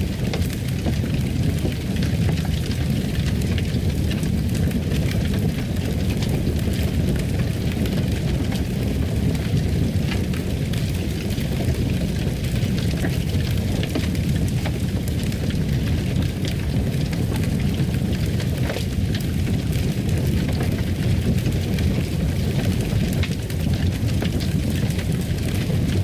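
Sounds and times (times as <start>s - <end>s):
fireplace fire crackling: 0.0s - 26.0s
low fire rumble: 0.0s - 26.0s.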